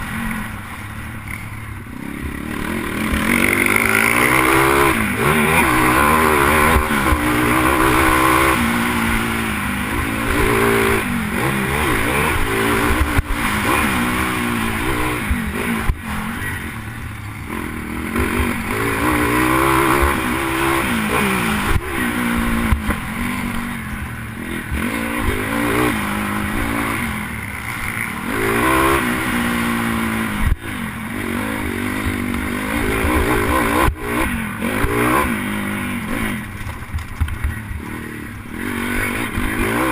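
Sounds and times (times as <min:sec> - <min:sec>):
pitbike engine revving: 0:01.2 - 0:36.6, 0:37.4 - 0:39.9.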